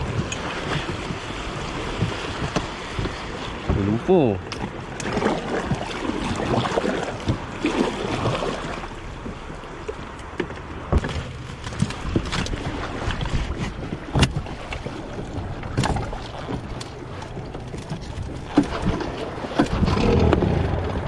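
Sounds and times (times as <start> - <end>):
water sloshing against hull: 0.0 - 21.0.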